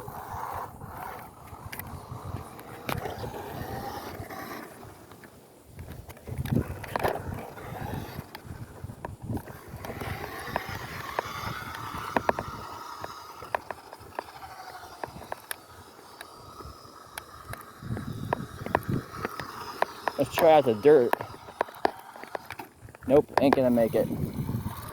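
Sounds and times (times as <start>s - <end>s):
toy car electric motor whine: 0.0s - 24.9s
toy car bumping clicks: 1.1s - 24.9s.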